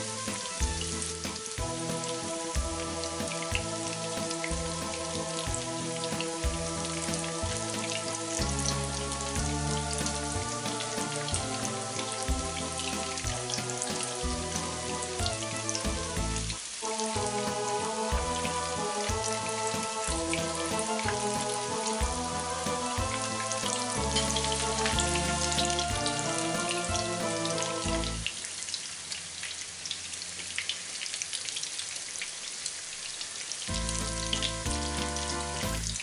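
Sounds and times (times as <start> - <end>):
background music: 0.0 - 28.6, 33.7 - 36.0
food frying in hot oil: 0.0 - 36.0.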